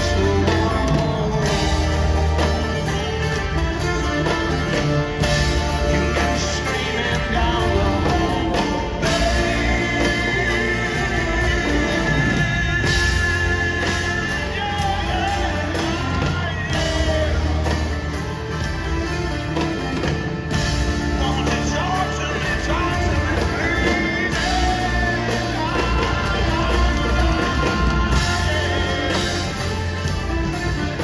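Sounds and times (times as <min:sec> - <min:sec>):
lead vocal singing: 0:00.0 - 0:31.0
live rock band playing: 0:00.0 - 0:31.0.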